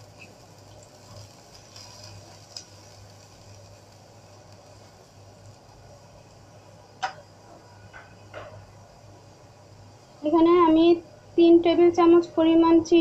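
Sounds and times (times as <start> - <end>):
quiet steady hum: 0.0 - 13.0.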